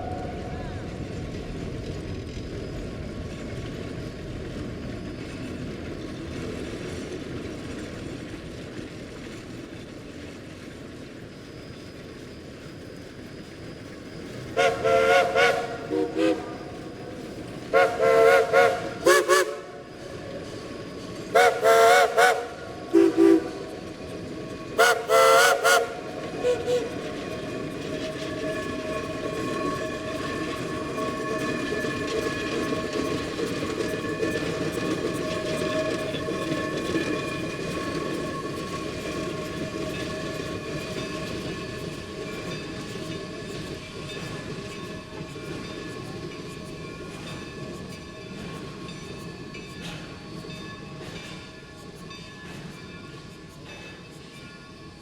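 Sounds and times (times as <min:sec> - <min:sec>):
steam locomotive chime whistle: 0:00.0 - 0:01.0, 0:11.6 - 0:55.0
rumble of train running: 0:00.0 - 0:55.0.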